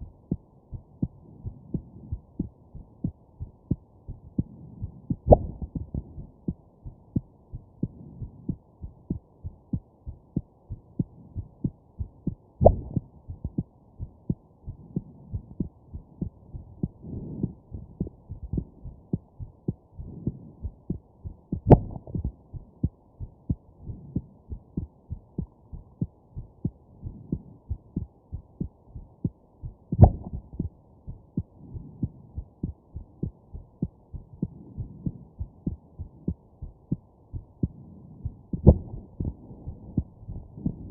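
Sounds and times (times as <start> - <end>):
heartbeat: 0.0 - 40.9.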